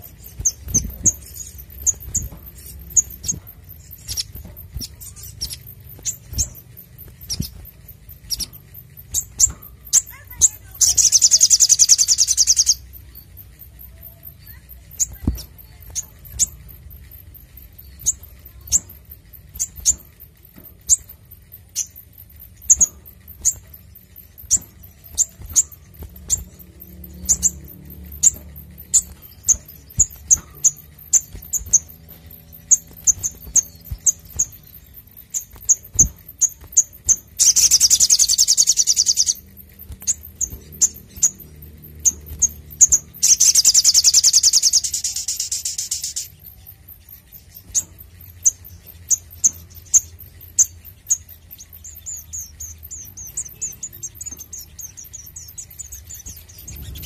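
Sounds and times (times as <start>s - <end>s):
bird high chirps: 0.0s - 57.0s
bird rapid trill: 0.0s - 57.0s.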